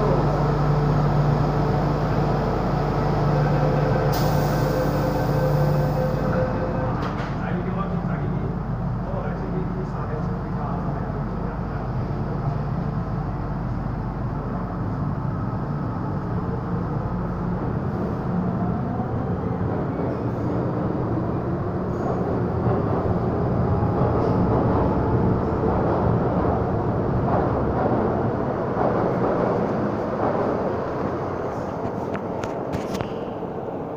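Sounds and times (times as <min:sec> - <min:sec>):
wheels rumbling on rail: 0:00.0 - 0:33.9.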